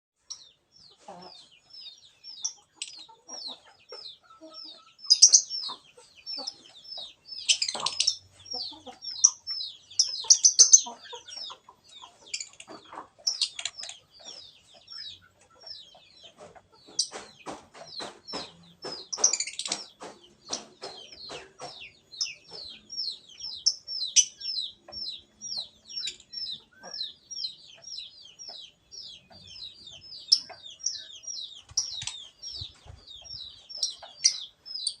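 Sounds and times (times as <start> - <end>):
lovebird chirping: 0.2 - 35.0.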